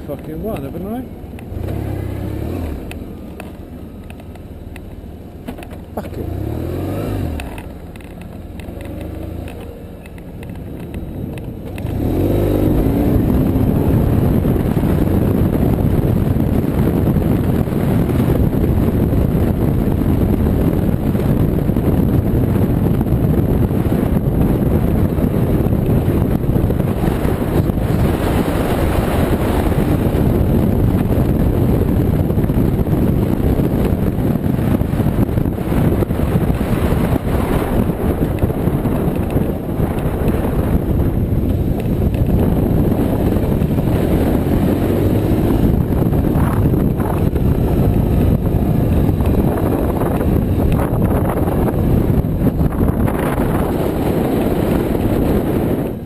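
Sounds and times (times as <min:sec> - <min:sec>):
motorcycle engine: 0:00.0 - 0:56.0
wind rushing over microphone: 0:00.0 - 0:56.0.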